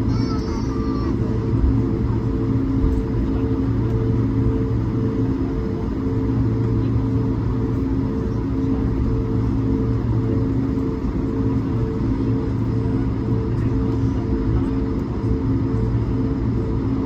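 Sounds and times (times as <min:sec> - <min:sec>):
airplane cabin rumble and hum: 0:00.0 - 0:17.0.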